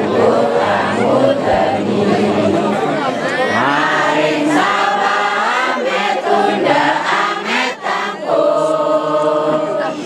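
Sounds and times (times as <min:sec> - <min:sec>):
group chanting a song: 0:00.0 - 0:10.0.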